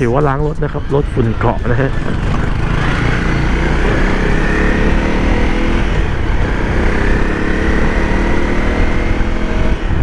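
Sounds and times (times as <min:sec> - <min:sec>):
motorcycle engine running: 0:00.0 - 0:10.0
wind rumble on microphone: 0:00.0 - 0:10.0.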